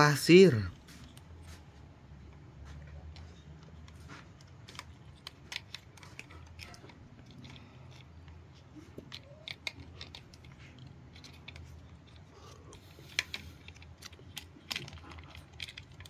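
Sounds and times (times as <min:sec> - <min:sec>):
plastic toys clicking and crackling: 0:00.0 - 0:16.0.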